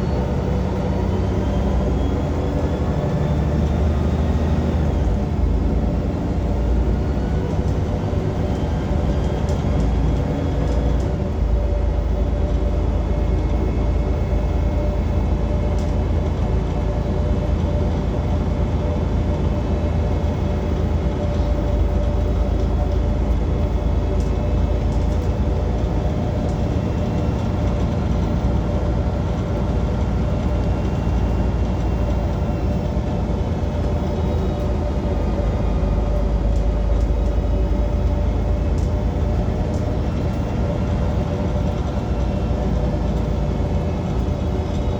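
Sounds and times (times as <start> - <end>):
bus engine rumbling: 0.0 - 44.9.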